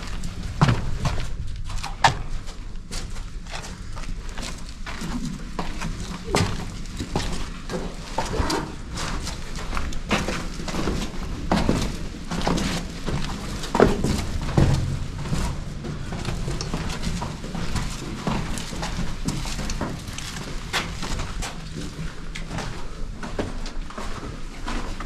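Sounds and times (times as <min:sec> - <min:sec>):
footsteps on stone floor: 0:00.0 - 0:25.0
steady low hum: 0:00.0 - 0:25.0.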